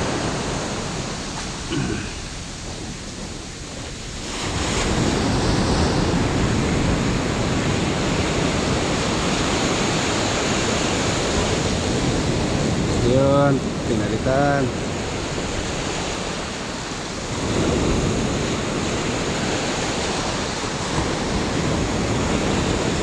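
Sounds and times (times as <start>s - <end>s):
surf washing on beach: 0.0s - 23.0s.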